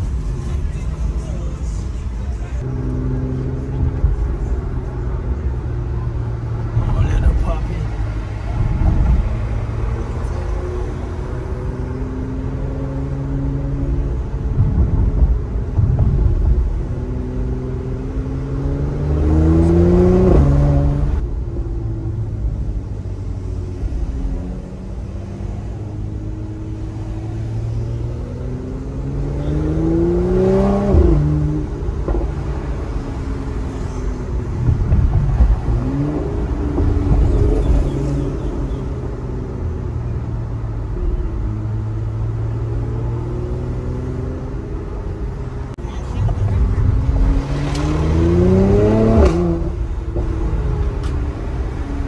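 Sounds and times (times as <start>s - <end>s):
car engine droning: 0.0s - 52.0s.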